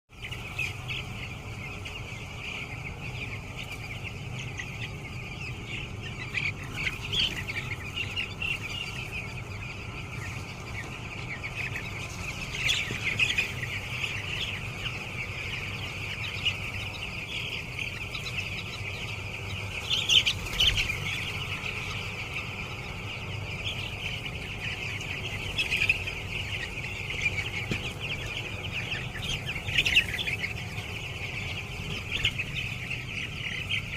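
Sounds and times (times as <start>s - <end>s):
chicks peeping: 0.1s - 33.9s.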